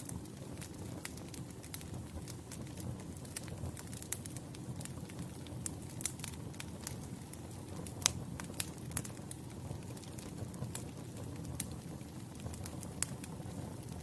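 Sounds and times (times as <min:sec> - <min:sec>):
fire crackling and popping: 0:00.0 - 0:14.0
flames rumbling: 0:00.0 - 0:14.0.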